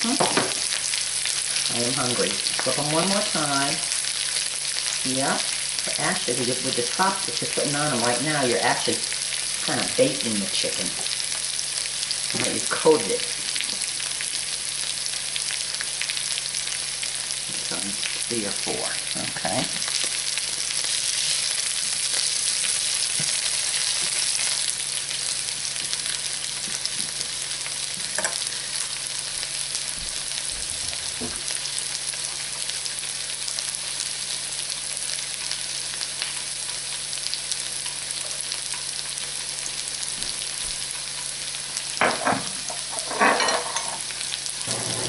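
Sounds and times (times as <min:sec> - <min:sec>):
food sizzling in a frying pan: 0:00.0 - 0:45.0.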